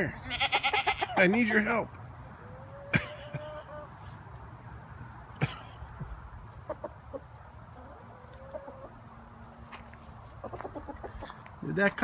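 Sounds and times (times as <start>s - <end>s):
chickens clucking: 0.3s - 12.0s.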